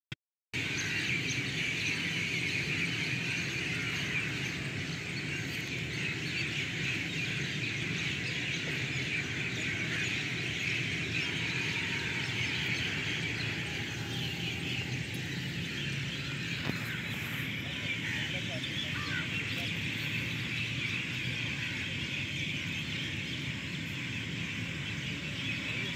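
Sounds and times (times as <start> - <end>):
birds chirping: 0.6 - 25.9.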